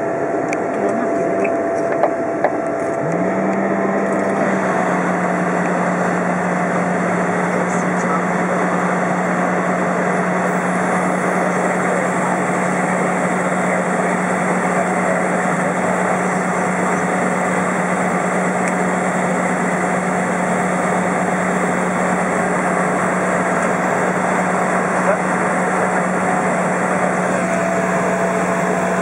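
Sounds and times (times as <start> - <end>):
airplane engine idling: 0.0 - 29.0.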